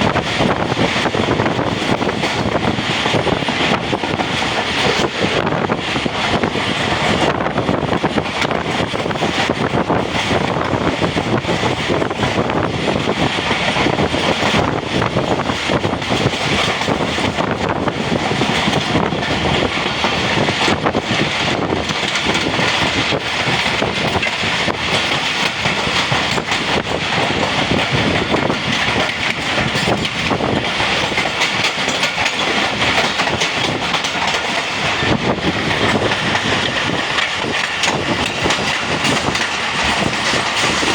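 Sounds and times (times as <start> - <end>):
train rumbling on track: 0.0 - 40.9
wheels clicking over rail joints: 0.0 - 40.9.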